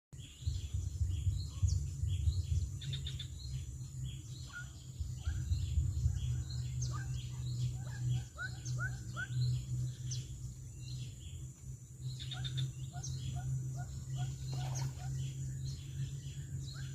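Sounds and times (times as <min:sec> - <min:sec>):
birds chirping: 0:00.2 - 0:16.9
low rumble: 0:00.2 - 0:16.9.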